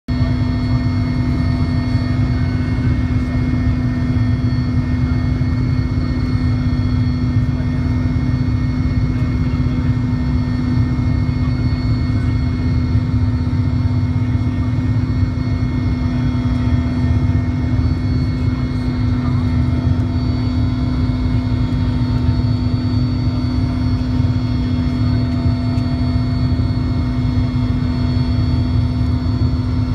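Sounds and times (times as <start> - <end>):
helicopter engines and rotor drone: 0.1 - 29.9.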